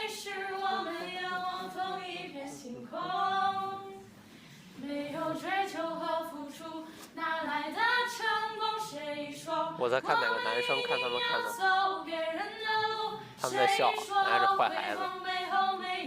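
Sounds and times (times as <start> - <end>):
girls singing together: 0.0 - 4.1, 4.7 - 16.0.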